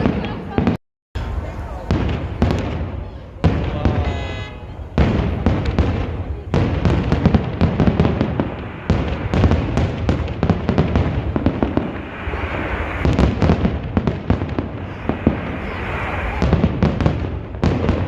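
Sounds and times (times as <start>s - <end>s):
fireworks crackling: 0.0s - 18.0s
sharp firework bang: 1.8s - 18.0s.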